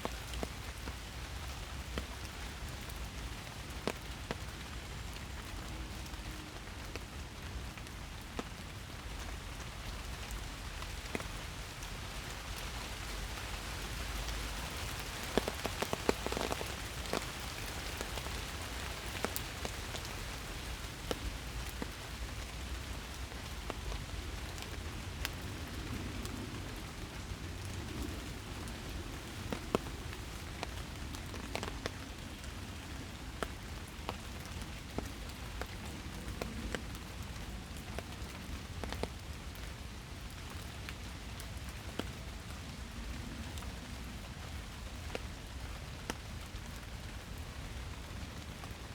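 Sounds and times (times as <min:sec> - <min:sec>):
raindrops tapping close by: 0:00.0 - 0:48.9
steady rain hiss: 0:00.0 - 0:48.9.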